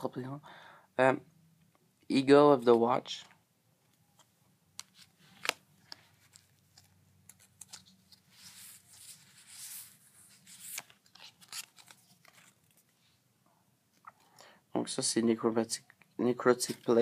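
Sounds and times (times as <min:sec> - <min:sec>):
soft rustling of cards: 0:01.6 - 0:17.0.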